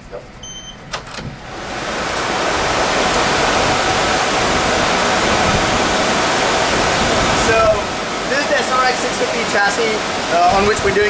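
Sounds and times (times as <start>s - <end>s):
cooling fans rushing: 0.0s - 11.0s.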